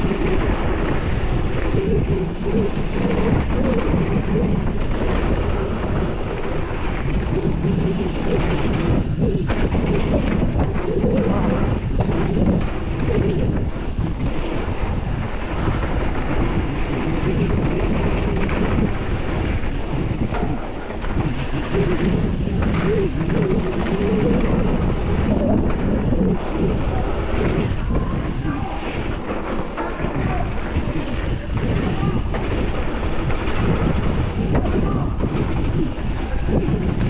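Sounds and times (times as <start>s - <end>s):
bike rattling over bumps: 0.0s - 37.0s
tyre noise on dirt: 0.0s - 37.0s
wind buffeting microphone: 0.0s - 37.0s.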